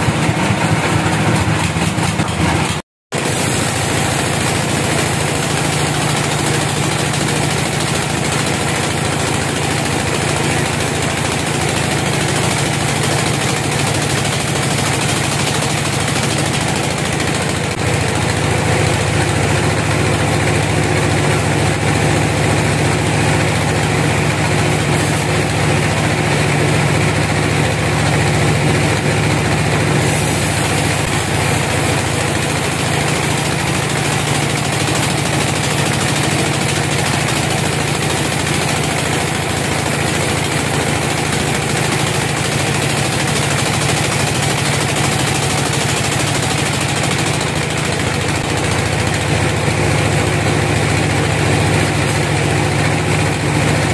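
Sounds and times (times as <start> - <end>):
saw blade rushing through wood: 0.0 - 53.9
sawmill machine hum: 0.0 - 53.9.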